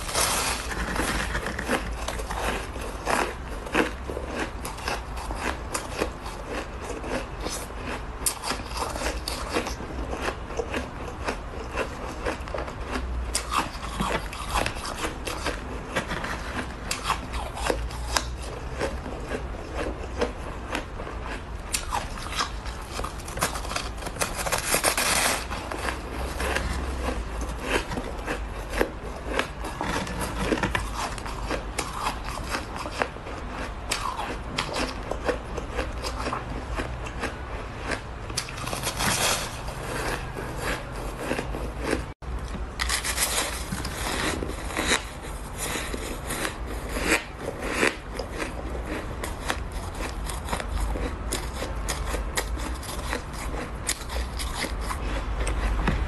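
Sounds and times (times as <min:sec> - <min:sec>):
crunching shaved ice: 0:00.0 - 0:56.0.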